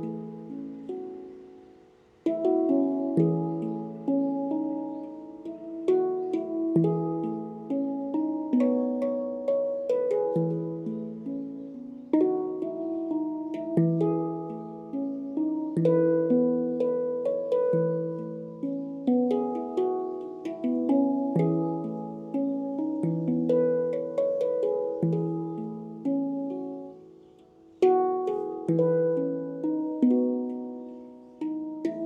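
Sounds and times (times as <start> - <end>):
handpan melody: 0.0 - 32.0.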